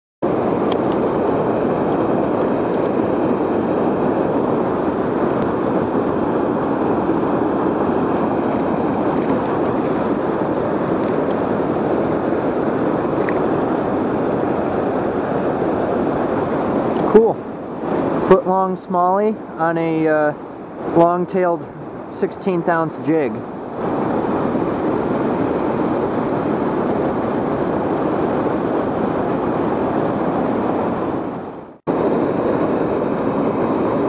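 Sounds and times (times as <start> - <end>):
water roaring over a dam: 0.2 - 34.0.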